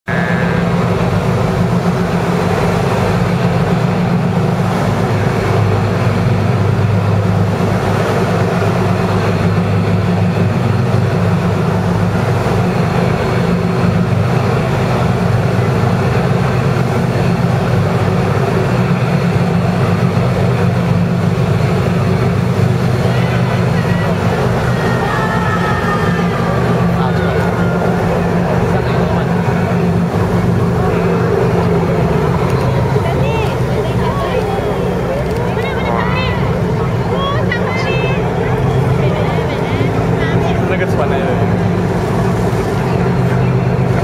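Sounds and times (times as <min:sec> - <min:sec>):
boat engine humming: 0:00.0 - 0:44.0
water washing along hull: 0:00.1 - 0:44.0.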